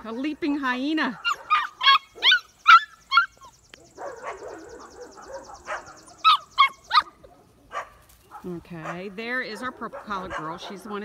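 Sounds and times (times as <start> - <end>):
puppies yipping: 0.9 - 11.0.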